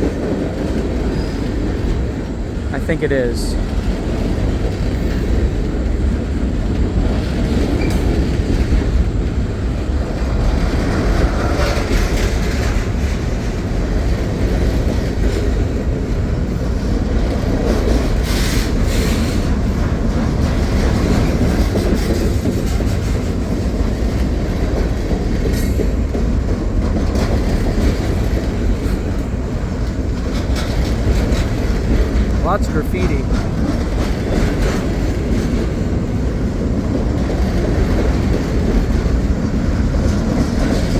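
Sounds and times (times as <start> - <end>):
wheel clatter over rail joints: 3.5 - 32.4, 33.2 - 40.9.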